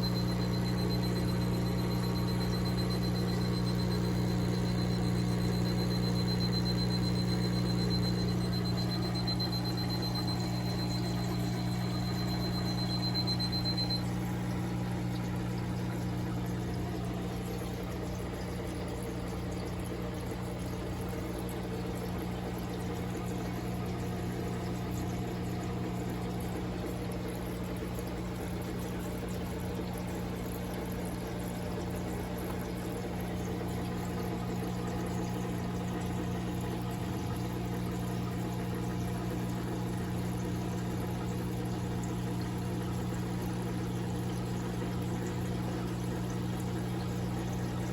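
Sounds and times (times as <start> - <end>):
filter pump hum: 0.0 - 47.9.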